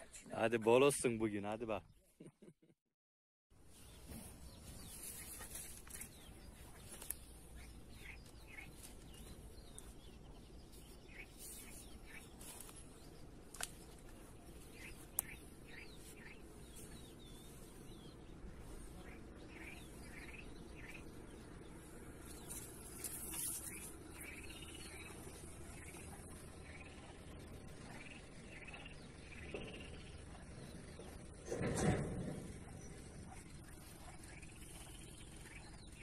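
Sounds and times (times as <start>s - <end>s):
small birds chirping: 3.6s - 31.5s, 32.3s - 36.0s.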